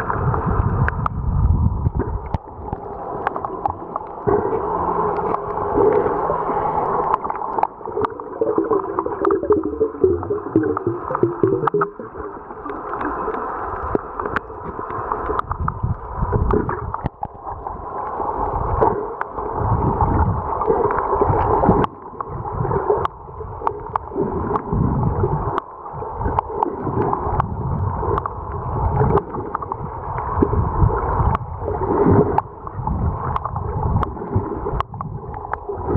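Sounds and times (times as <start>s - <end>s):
water surging underwater: 0.0s - 35.9s.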